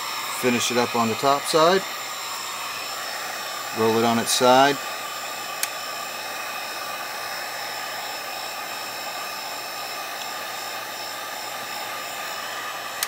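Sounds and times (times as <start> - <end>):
heat gun fan blowing with whine: 0.0 - 13.0.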